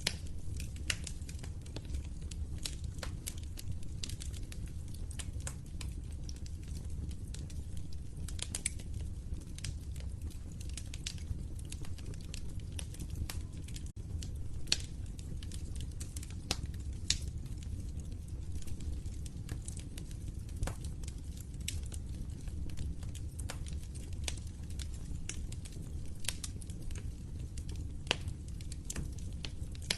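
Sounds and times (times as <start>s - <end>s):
fire crackling and popping: 0.0s - 29.9s
low rumble of flames: 0.0s - 29.9s.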